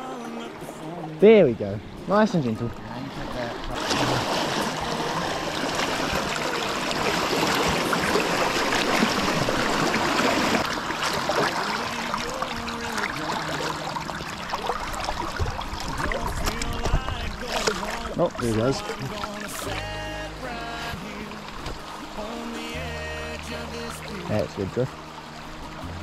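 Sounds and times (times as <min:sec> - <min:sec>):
river water rushing and splashing: 0:00.0 - 0:26.0.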